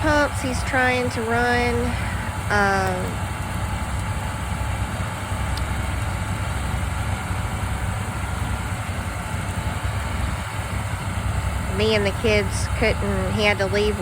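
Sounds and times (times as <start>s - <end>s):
generator engine drone: 0.0s - 14.0s
tractor engine running: 0.0s - 14.0s.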